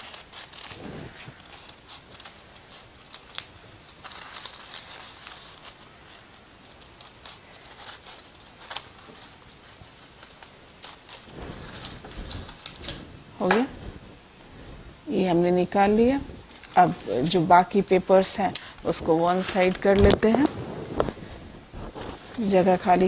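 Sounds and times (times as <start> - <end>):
newspaper rustling and crinkling: 0.0 - 23.0.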